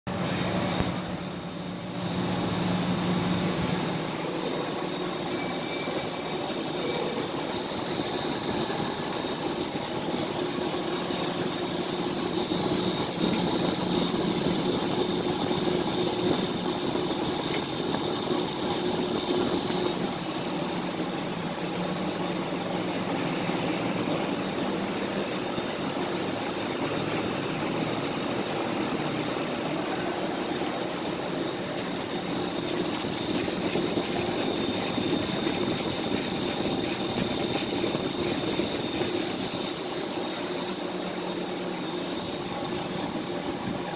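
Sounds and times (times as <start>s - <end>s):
exhaust fans rushing air: 0.1s - 43.9s
high whine: 0.1s - 43.9s.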